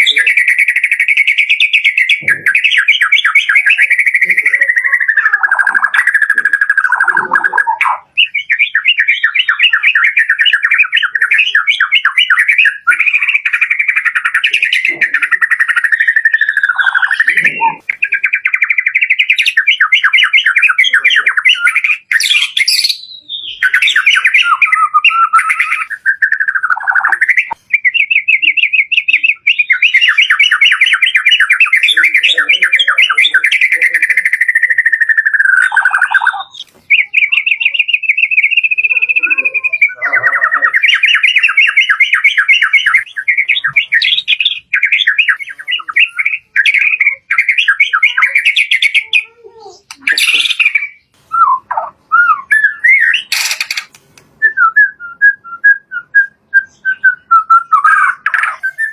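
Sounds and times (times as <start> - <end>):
songbird singing trills: 0.0 - 58.9.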